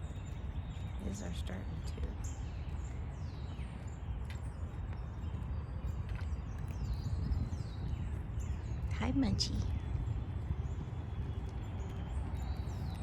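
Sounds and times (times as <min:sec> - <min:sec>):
low rumbling microphone noise: 0:00.0 - 0:13.0.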